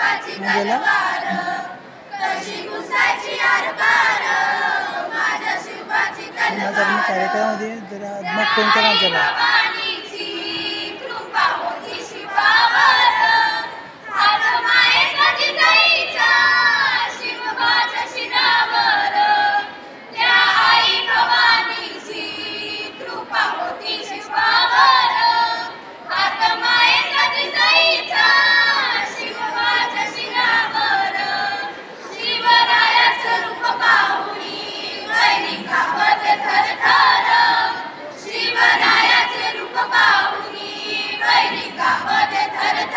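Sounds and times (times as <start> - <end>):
children singing together: 0.0 - 7.7, 8.3 - 42.9.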